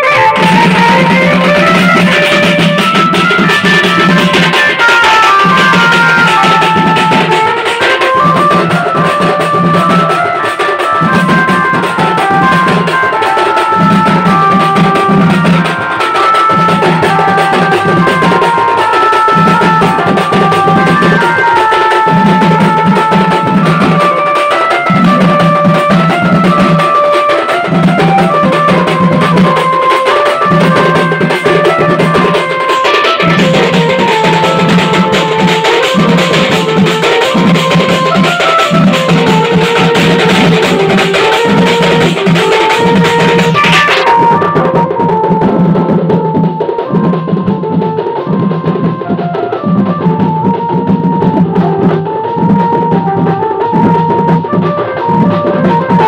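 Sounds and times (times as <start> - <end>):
barrel drums beaten together: 0.0 - 56.0
melody line: 0.0 - 56.0.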